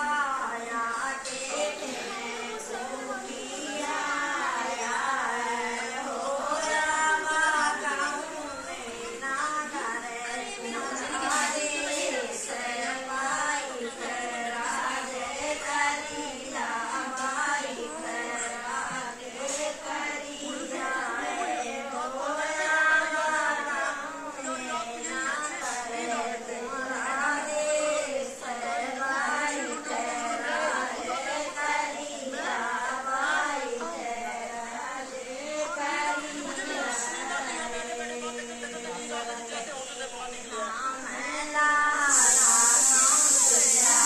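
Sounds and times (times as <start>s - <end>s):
women singing unaccompanied: 0.0s - 44.0s.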